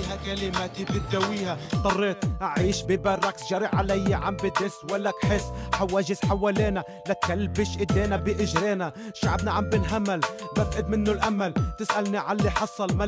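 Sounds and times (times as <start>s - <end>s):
hip-hop beat: 0.0s - 13.0s
man rapping: 0.0s - 13.0s.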